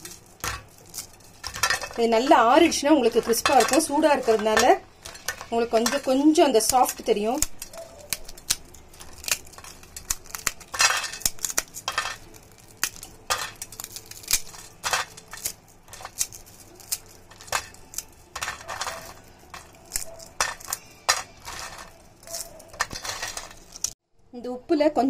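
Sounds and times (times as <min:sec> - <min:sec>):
crisp fried batter cracking: 0:00.0 - 0:24.0
pieces clinking on steel plate: 0:00.0 - 0:24.0.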